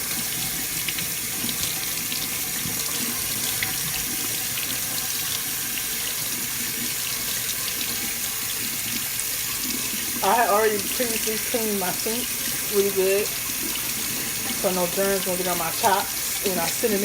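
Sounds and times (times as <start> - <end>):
faucet running into sink: 0.0 - 17.0
water splashing on meat: 0.0 - 17.0.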